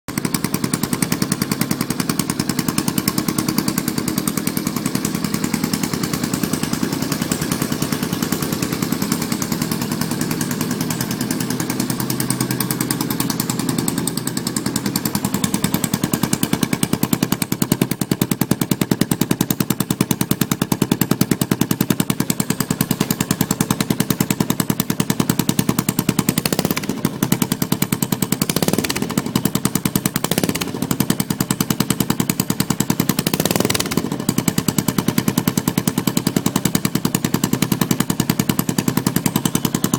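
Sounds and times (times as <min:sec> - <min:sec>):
scooter engine popping: 0:00.1 - 0:39.9
scooter engine revving: 0:00.1 - 0:39.9.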